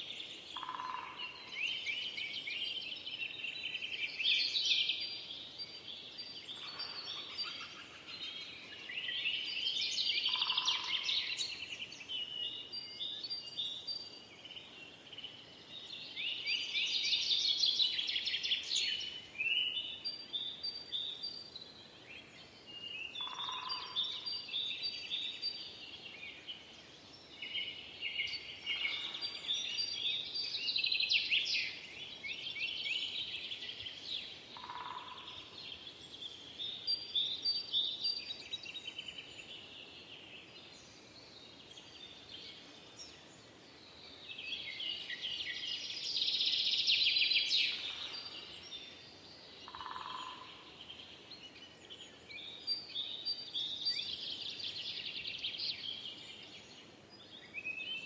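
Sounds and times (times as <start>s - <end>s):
songbirds trilling and chirping: 0.0s - 58.0s.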